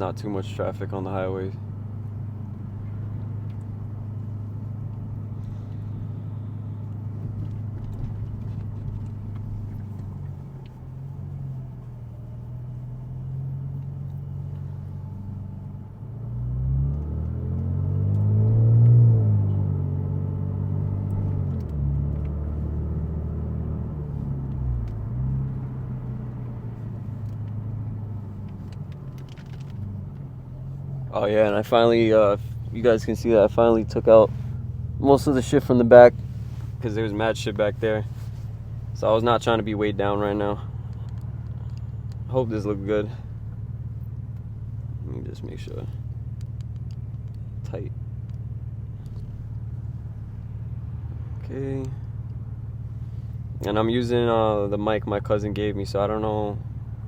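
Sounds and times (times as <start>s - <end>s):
car engine revving inside cabin: 0.0s - 57.0s.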